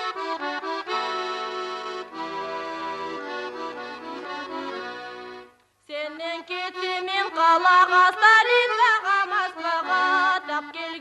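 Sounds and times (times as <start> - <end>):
accordion folk tune: 0.0 - 11.0.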